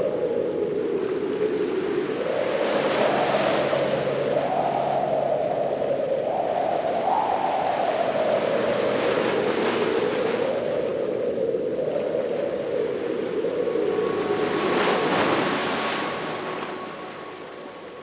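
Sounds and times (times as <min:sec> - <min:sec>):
ocean waves washing on beach: 0:00.0 - 0:18.0
wavering steady drone: 0:00.0 - 0:18.0.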